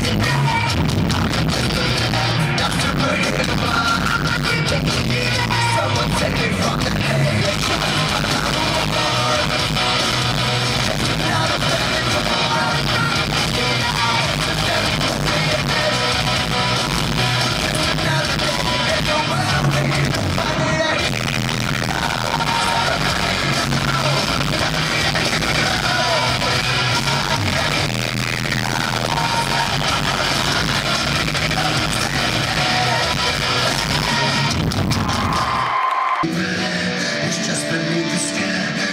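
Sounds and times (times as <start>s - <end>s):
guitars: 0.0s - 38.9s
live rock band playing: 0.0s - 38.9s
person singing: 0.0s - 38.9s.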